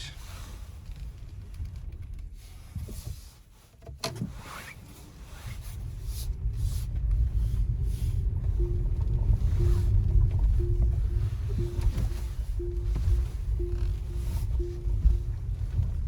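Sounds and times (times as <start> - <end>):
car rumbling on the move: 0.0 - 16.0.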